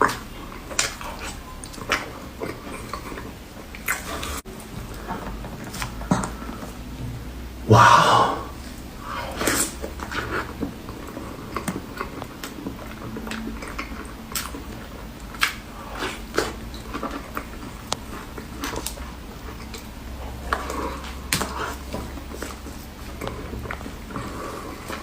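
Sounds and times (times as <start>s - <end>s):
cake being bitten and chewed: 0.0s - 6.8s, 8.6s - 25.0s.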